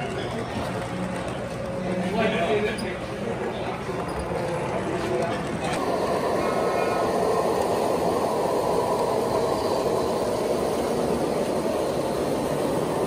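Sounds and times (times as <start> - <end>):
model train rumbling on rails: 0.0 - 13.0.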